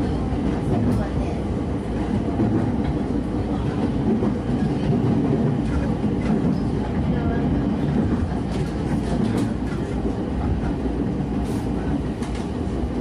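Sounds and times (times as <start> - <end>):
rail-joint clacks: 0.0 - 13.0
train wheels rumbling on rails: 0.0 - 13.0.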